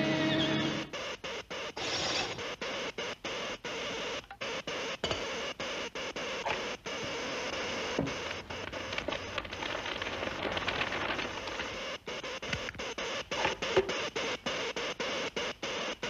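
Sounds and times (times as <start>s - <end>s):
robot machinery mechanical chatter: 0.0s - 16.0s.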